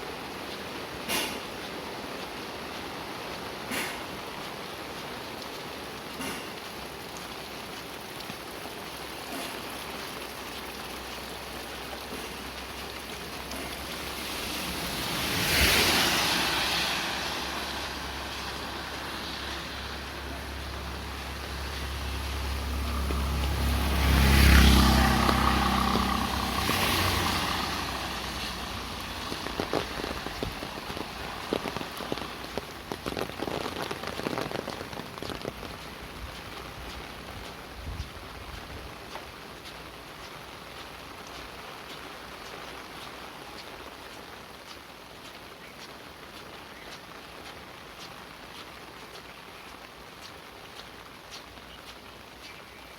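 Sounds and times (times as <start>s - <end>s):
rain hiss: 0.0s - 52.9s
vehicles passing on wet road: 0.0s - 52.9s.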